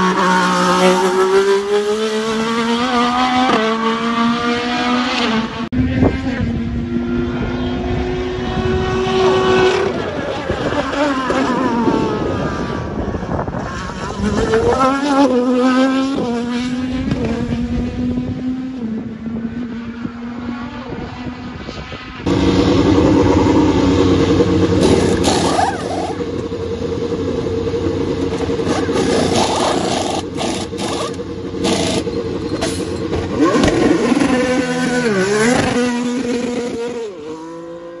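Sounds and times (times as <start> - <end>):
race car engine: 0.0 - 38.0.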